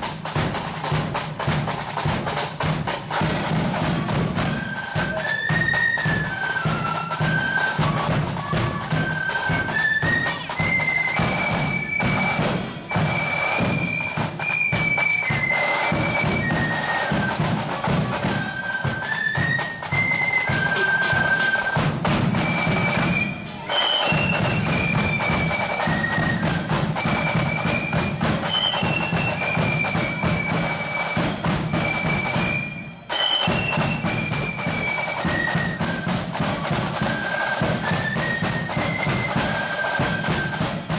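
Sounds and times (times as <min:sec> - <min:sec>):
drums beating march time: 0:00.0 - 0:40.9
flute band playing march tune: 0:00.0 - 0:40.9.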